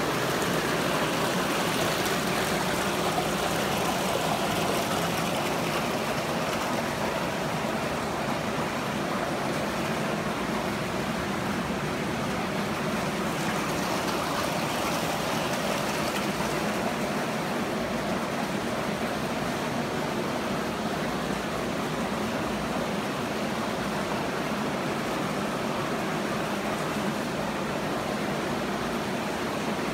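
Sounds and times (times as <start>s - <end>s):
running water rushing: 0.0s - 29.9s.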